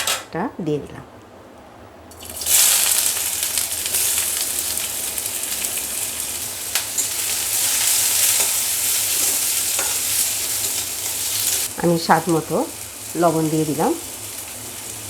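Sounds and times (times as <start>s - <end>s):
onion sizzling in hot oil: 2.1s - 15.0s.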